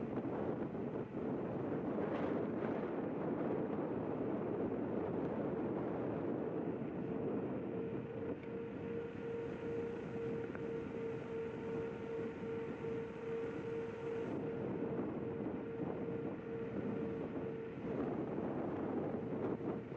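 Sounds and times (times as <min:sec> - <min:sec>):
pulsing motor whine: 0:00.0 - 0:19.9
wind rush and tyre noise: 0:00.0 - 0:19.9.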